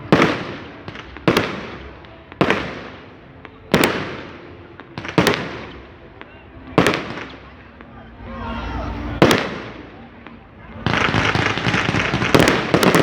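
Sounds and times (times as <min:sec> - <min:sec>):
firecracker bangs: 0:00.0 - 0:07.9, 0:09.1 - 0:13.0.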